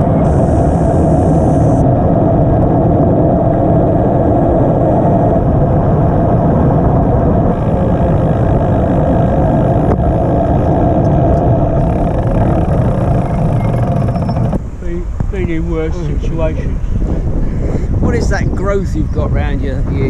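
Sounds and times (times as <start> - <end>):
constant hum: 0.0 - 20.0
vehicle road noise: 0.0 - 20.0.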